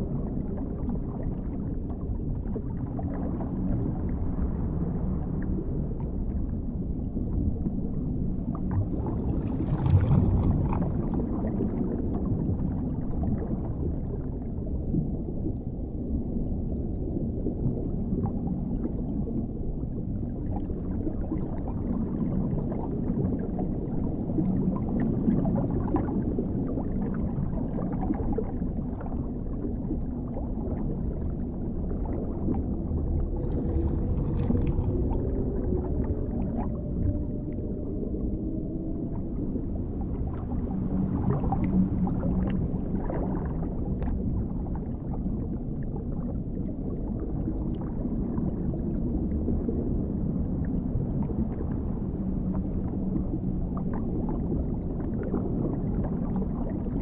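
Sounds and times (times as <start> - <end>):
muffled underwater rumble: 0.0 - 57.0.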